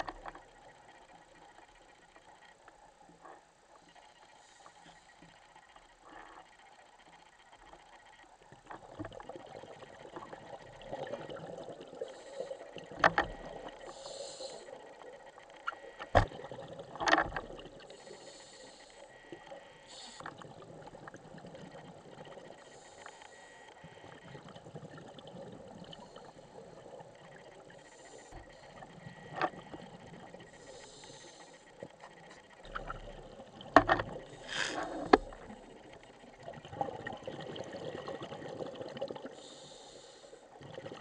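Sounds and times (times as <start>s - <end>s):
regulator hiss and bubbles underwater: 0.0s - 41.0s.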